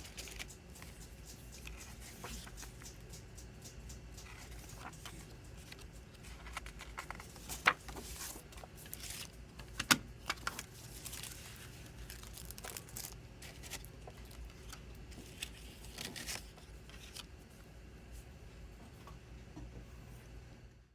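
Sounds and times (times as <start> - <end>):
packaging rustling and clicking: 0.0 - 17.3.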